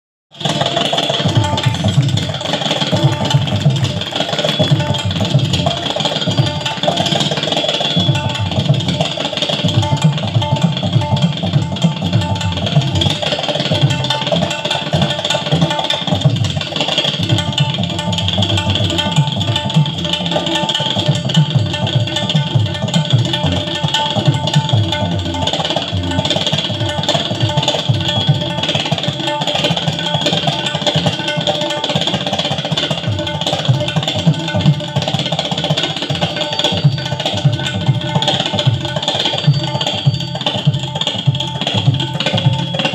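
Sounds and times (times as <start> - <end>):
fast tabla drumming: 0.3 - 42.9.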